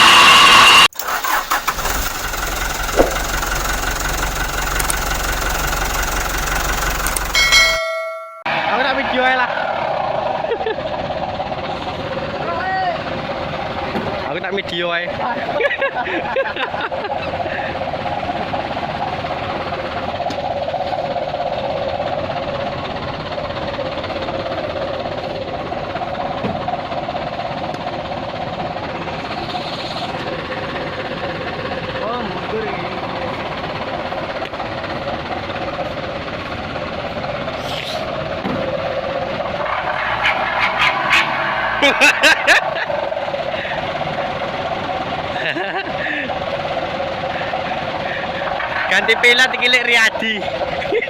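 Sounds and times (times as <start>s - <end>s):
diesel truck engine rumbling: 0.0s - 51.0s.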